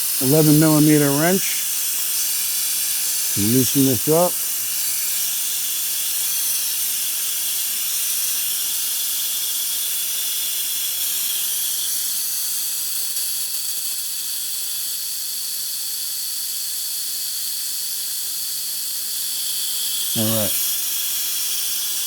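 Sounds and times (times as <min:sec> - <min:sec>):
vacuum brake bleeder hissing: 0:00.0 - 0:22.0.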